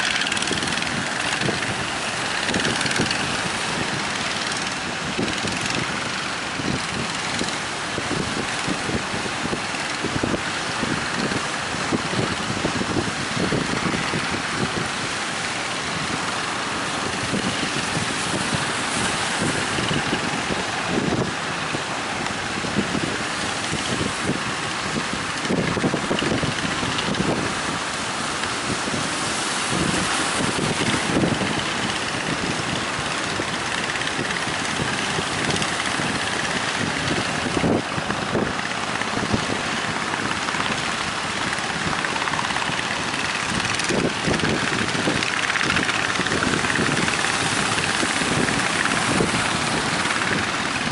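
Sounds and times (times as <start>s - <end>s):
boat engine running: 0.0s - 50.9s
wind buffeting microphone: 0.0s - 50.9s.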